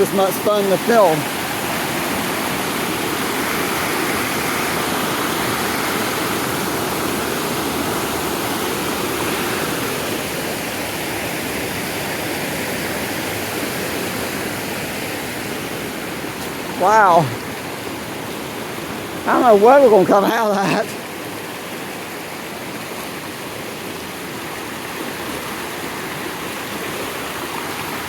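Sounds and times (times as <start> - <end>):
creek water rushing over rapids: 0.0 - 28.0.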